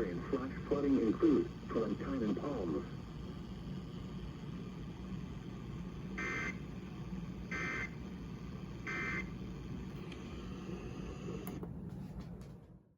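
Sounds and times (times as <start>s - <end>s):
low hum and hiss: 0.0s - 12.9s.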